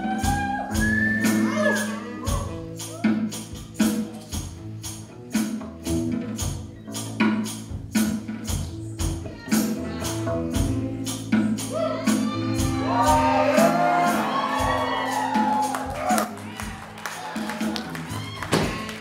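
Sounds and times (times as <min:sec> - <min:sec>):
live band music: 0:00.0 - 0:19.0.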